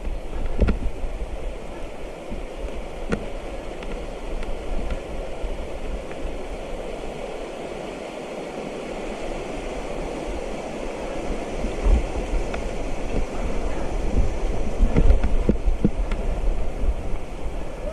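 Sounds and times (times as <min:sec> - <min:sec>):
rushing noise of bike ride: 0:00.0 - 0:17.9
wind buffeting microphone: 0:00.0 - 0:17.9.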